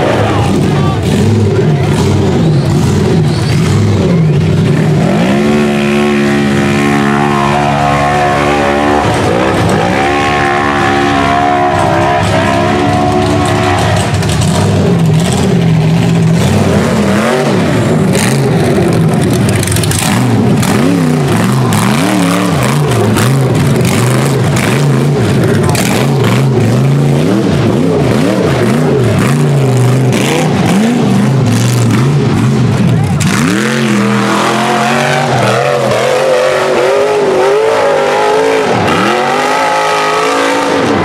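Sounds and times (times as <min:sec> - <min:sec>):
buggy engine revving hard: 0:00.0 - 0:41.0.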